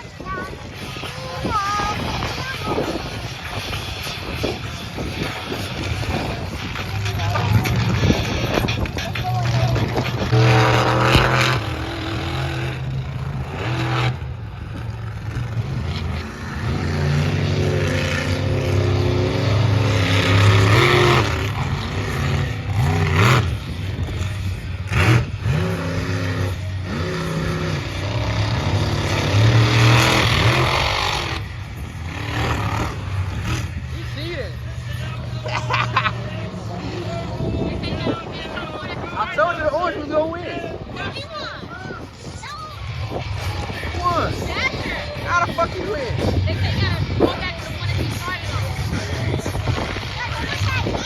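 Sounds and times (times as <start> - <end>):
monster truck engines revving: 0.0 - 51.0.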